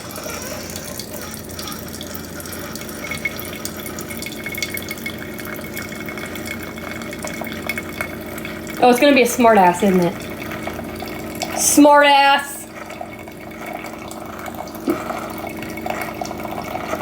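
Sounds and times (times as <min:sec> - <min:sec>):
coffee maker brewing: 0:00.0 - 0:17.0
coffee streaming into cup: 0:00.0 - 0:17.0.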